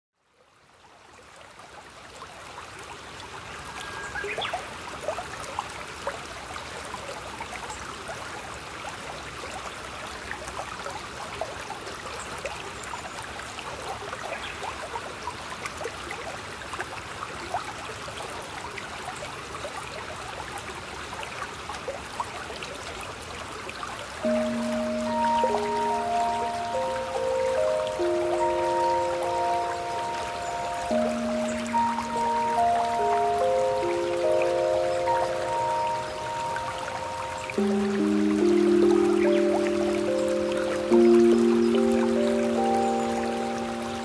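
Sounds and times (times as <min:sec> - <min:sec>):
stream trickling: 0:00.2 - 0:44.0.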